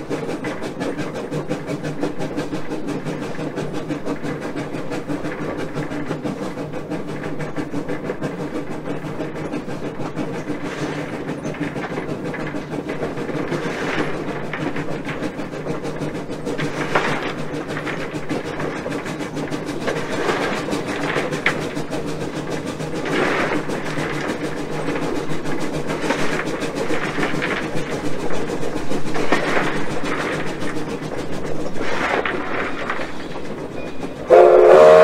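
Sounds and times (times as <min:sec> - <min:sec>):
train wheels clattering on rail: 0:00.0 - 0:35.0.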